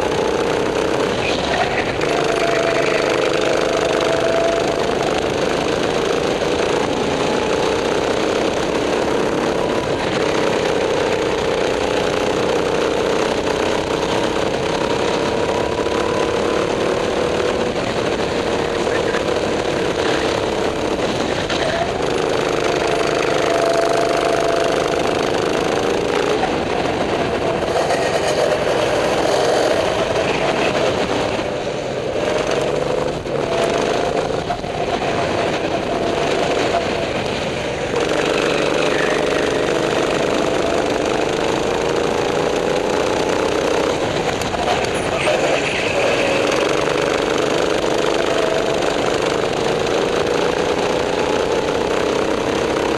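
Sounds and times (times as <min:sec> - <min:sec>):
go-kart engine revving: 0:00.0 - 0:52.9.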